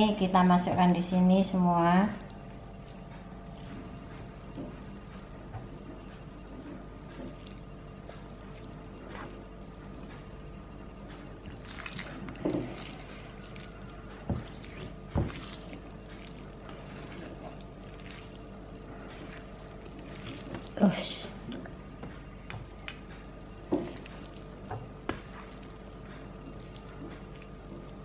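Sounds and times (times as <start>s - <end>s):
steady low hum: 0.0s - 28.0s
hands squishing raw meat: 0.1s - 10.4s, 11.2s - 28.0s.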